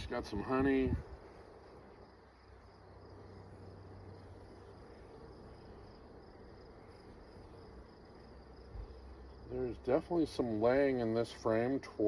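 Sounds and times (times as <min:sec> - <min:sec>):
honeybees buzzing: 0:00.0 - 0:12.0
pulsing insect trill: 0:00.0 - 0:12.0.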